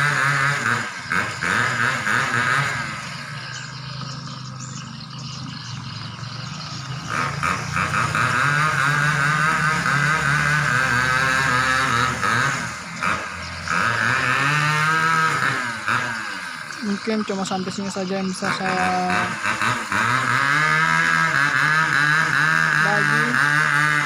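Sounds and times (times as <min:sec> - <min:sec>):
swiftlets twittering: 0:00.0 - 0:24.0
vehicle engine hum: 0:00.0 - 0:24.0.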